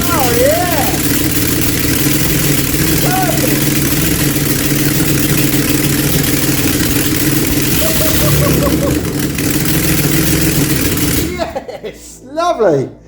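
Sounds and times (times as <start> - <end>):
car engine running loud: 0.0 - 11.6.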